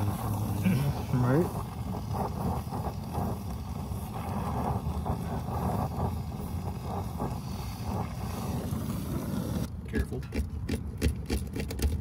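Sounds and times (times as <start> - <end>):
torch flame rushing: 0.0 - 9.7.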